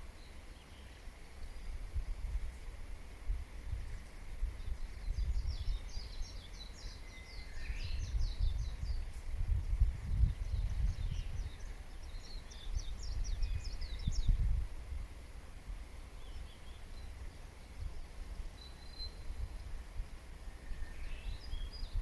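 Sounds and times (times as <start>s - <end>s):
songbird chirping: 0.0s - 2.7s, 3.7s - 14.6s, 15.4s - 22.0s.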